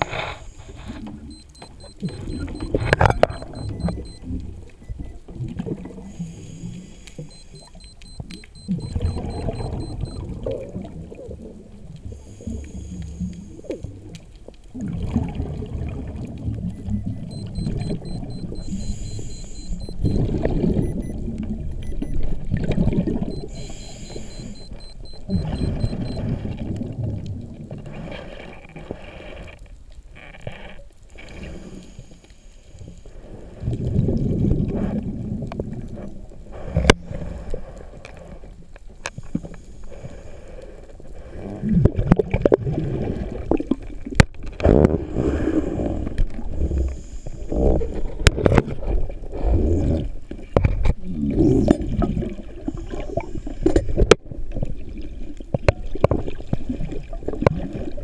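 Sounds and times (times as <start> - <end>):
underwater rumble of moving water: 0.0 - 58.0.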